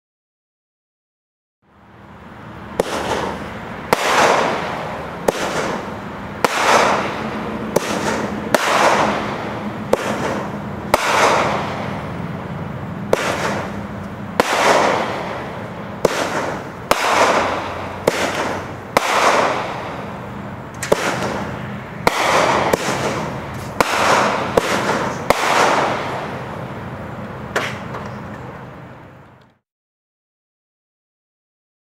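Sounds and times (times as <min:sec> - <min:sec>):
firework reports with hiss: 0:02.6 - 0:28.3.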